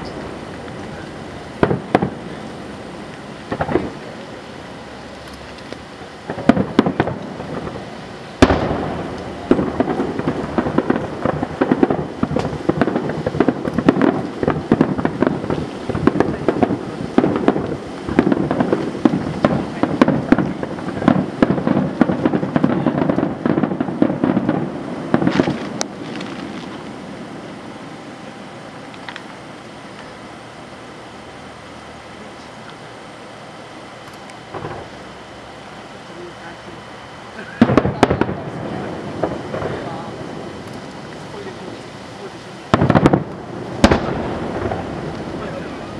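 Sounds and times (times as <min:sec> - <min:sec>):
fireworks booming and crackling: 0:00.0 - 0:31.2, 0:34.4 - 0:45.9.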